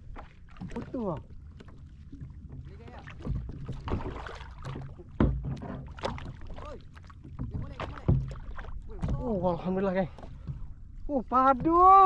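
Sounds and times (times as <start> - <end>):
knocks and rattles on kayak: 0.0 - 12.0.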